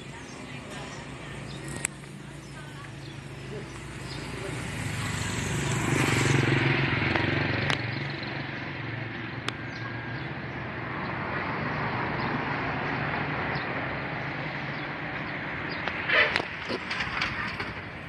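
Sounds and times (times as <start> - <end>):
road noise: 0.0 - 18.0
vehicle engine passing: 0.0 - 18.0.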